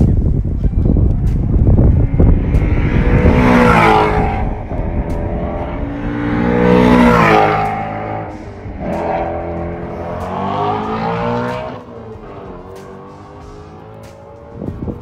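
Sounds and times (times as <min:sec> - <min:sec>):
car engine at full throttle: 0:01.0 - 0:15.0.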